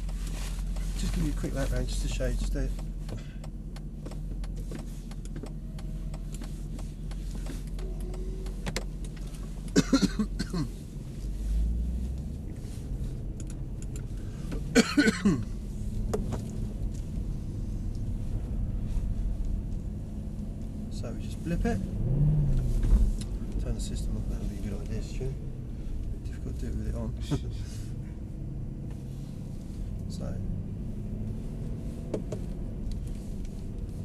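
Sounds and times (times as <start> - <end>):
car engine running at low revs: 0.0 - 34.0.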